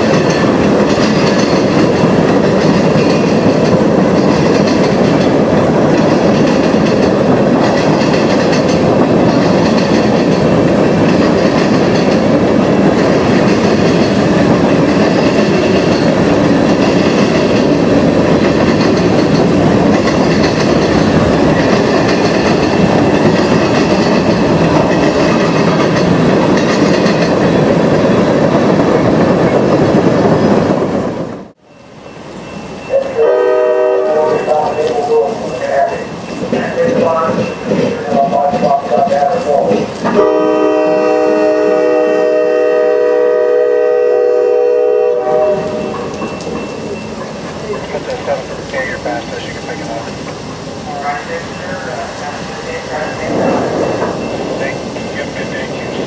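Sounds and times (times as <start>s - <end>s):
train wheels clacking over rail joints: 0.0s - 31.0s, 33.0s - 56.0s.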